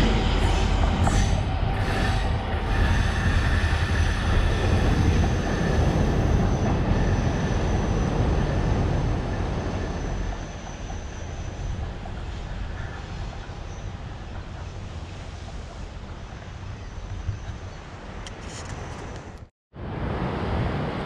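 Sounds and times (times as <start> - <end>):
wheels squealing on rails: 0.0 - 17.8
diesel train passing: 0.0 - 18.2.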